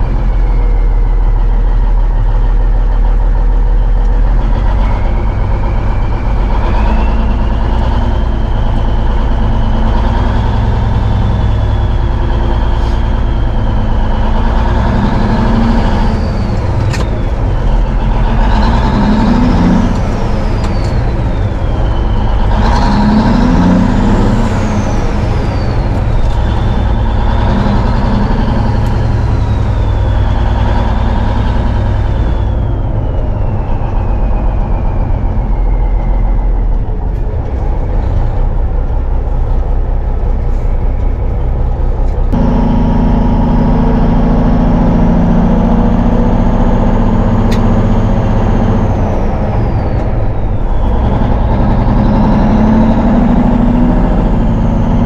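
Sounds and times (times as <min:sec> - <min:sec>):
truck diesel engine: 0:00.0 - 0:55.0.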